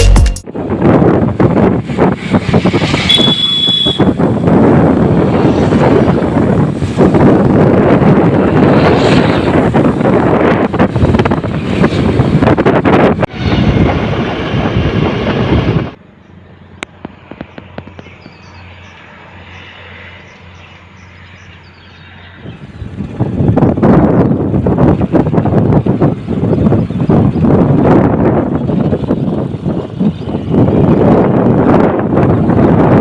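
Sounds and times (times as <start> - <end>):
wind buffeting microphone: 0.4 - 33.0.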